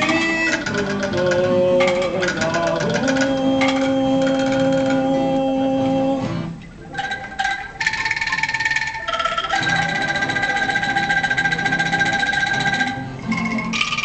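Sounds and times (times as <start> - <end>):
bamboo angklungs rattling: 0.0 - 5.0, 6.9 - 14.0.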